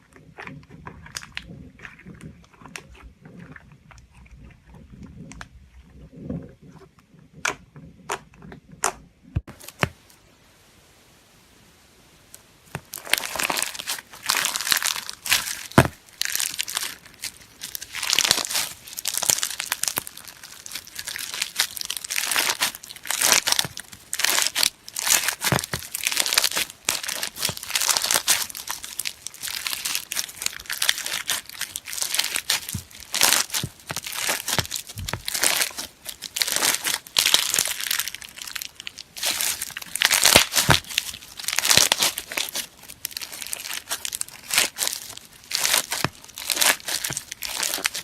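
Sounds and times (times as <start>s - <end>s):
slime crackling and crunching: 0.0s - 5.5s, 12.7s - 48.0s.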